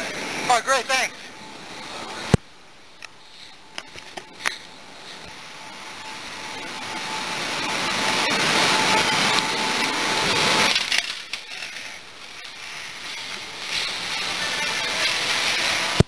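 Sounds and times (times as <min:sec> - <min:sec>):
faint hum: 0:00.0 - 0:16.0
rushing air noise: 0:00.0 - 0:16.0.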